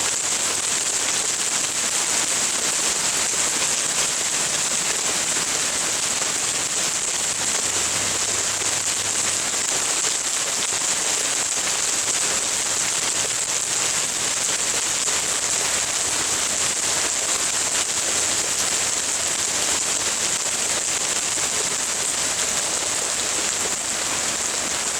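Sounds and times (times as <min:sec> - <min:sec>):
hail and heavy rain falling: 0:00.0 - 0:24.9.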